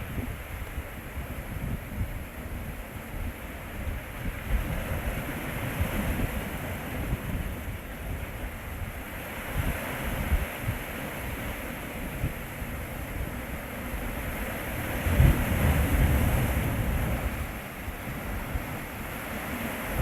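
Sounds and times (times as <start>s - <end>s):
sea waves washing on shore: 0.0s - 20.0s
wind buffeting microphone: 0.0s - 20.0s.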